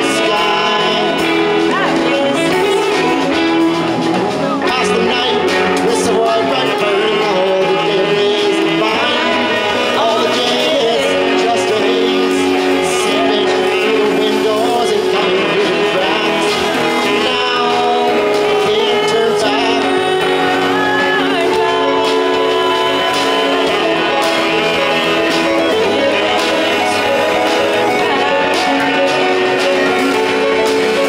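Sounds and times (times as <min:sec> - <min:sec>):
person singing: 0:00.0 - 0:31.0
rock band playing: 0:00.0 - 0:31.0.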